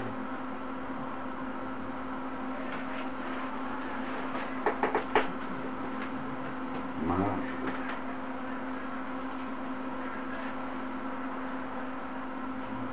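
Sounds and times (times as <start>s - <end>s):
electrical hum: 0.0s - 12.9s.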